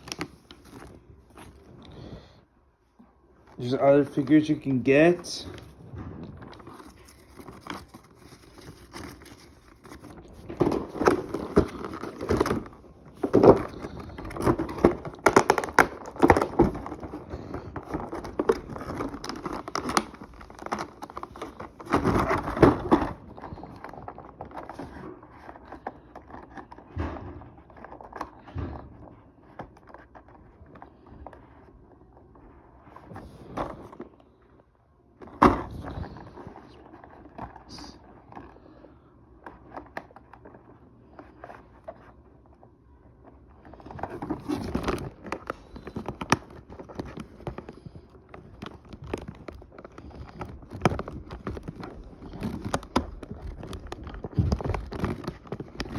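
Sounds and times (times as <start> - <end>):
packaging crinkling and rustling: 0.0 - 2.3, 3.4 - 34.5, 35.2 - 55.9.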